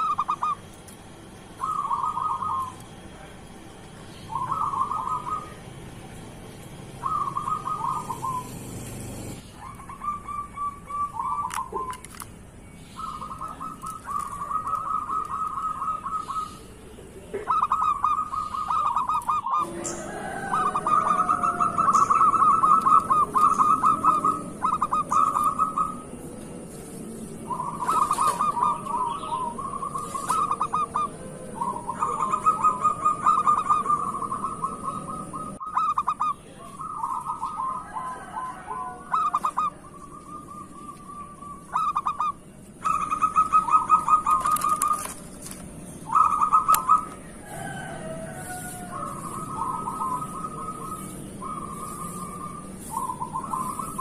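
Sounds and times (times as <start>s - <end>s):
dove cooing: 0.0s - 12.2s, 12.9s - 54.0s.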